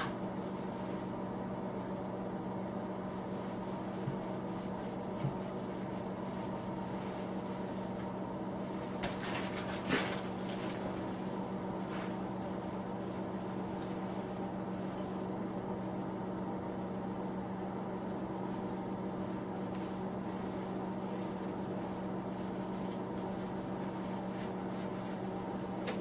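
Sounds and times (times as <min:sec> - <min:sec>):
space heater humming: 0:00.0 - 0:26.0.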